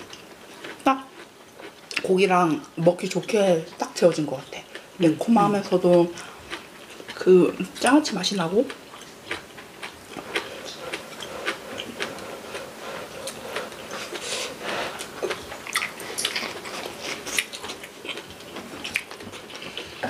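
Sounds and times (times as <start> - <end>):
crunchy chewing: 0.0 - 20.0.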